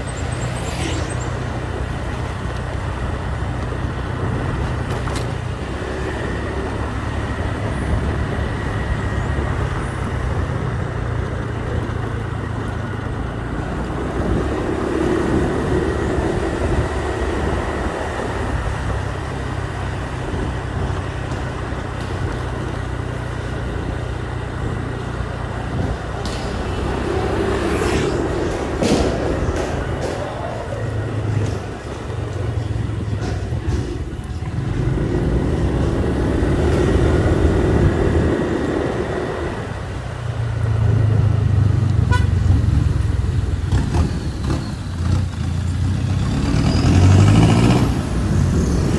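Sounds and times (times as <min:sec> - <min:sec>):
motorbike engine running: 0:00.0 - 0:46.3
road and wind noise: 0:00.0 - 0:48.9.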